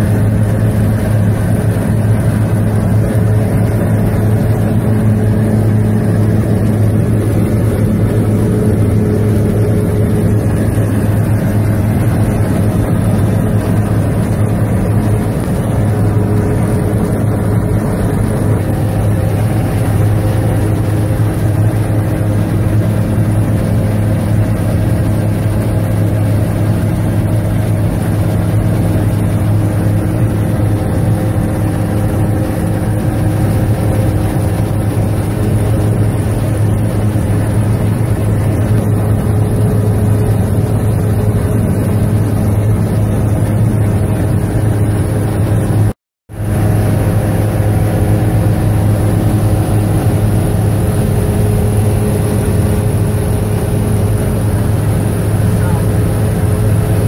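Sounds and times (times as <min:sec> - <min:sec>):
light airplane engine drone: 0:00.0 - 0:57.0.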